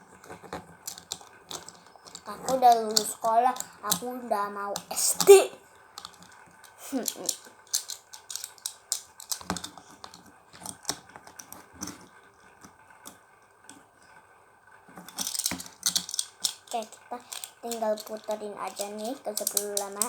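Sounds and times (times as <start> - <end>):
spinning top clicks and taps: 0.2 - 13.8, 15.0 - 20.0.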